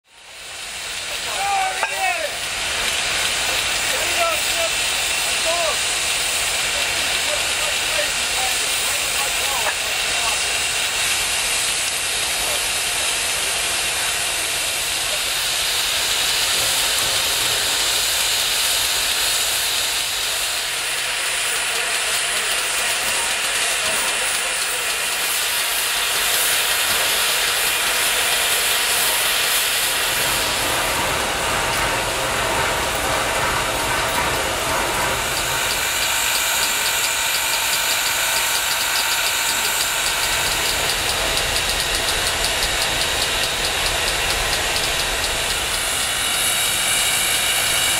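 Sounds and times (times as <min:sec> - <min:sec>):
steam hissing from locomotive: 0:00.0 - 0:47.9.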